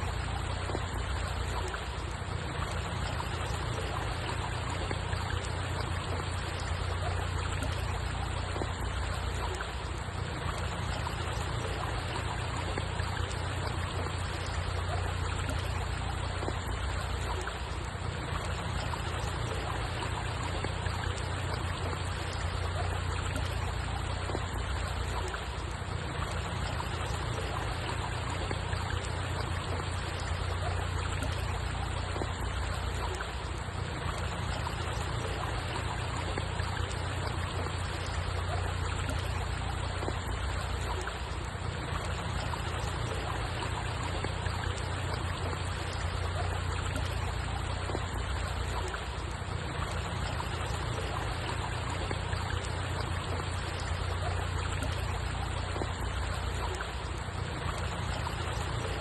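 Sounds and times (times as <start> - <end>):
flowing trickling water: 0.0 - 59.0.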